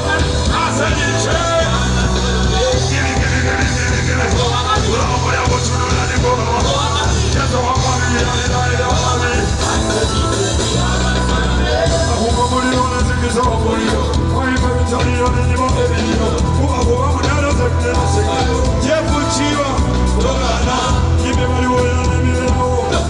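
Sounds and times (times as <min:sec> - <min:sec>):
band music over pa system: 0:00.0 - 0:23.0.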